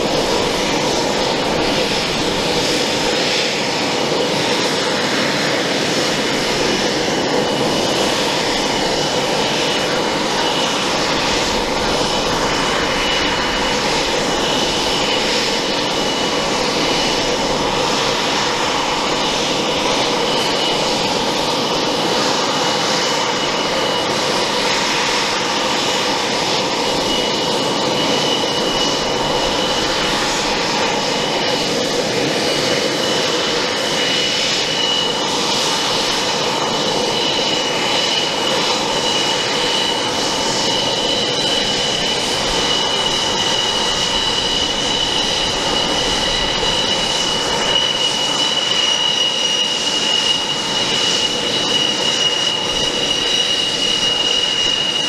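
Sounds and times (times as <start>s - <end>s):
jet engines taxiing: 0.0s - 55.0s.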